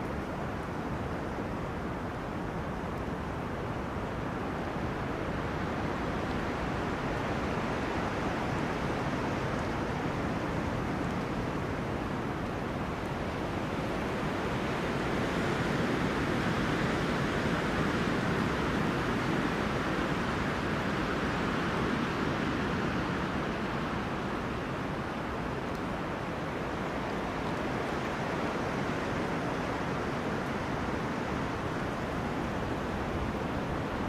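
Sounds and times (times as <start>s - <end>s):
wind through trees: 0.0s - 34.0s.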